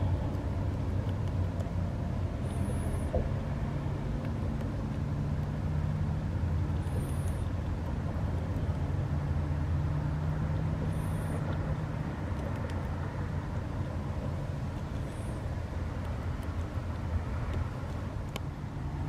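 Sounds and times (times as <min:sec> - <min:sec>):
beaver gnawing clicks: 0:00.0 - 0:09.8, 0:10.4 - 0:19.0
distant road traffic rumble: 0:00.0 - 0:19.0
vehicle hum: 0:00.0 - 0:19.0.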